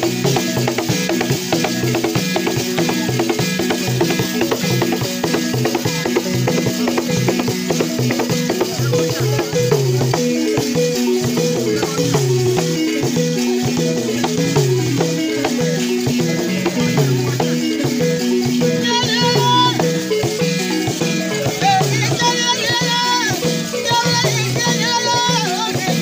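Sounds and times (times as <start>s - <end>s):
hand drum strokes: 0.0s - 26.0s
rattling shaker: 0.0s - 26.0s
wooden xylophones melody: 0.0s - 26.0s.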